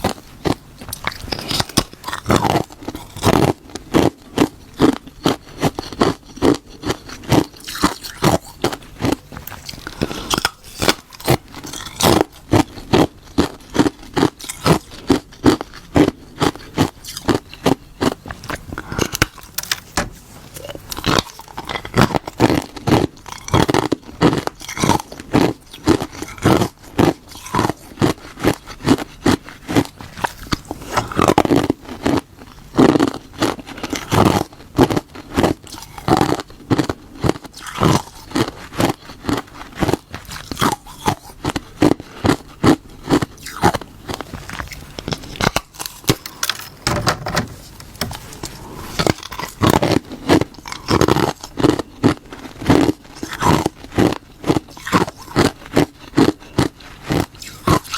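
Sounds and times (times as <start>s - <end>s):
ice being chewed: 0.0s - 57.9s.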